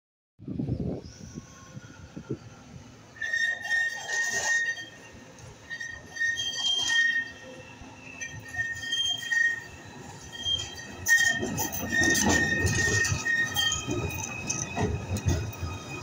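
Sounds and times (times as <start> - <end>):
tram wheels squealing: 1.0 - 16.0.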